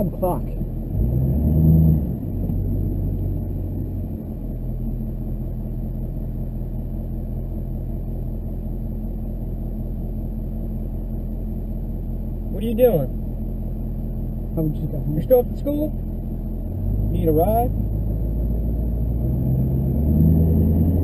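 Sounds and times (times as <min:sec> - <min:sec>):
pickup engine rumble from inside cab: 0:00.0 - 0:21.0.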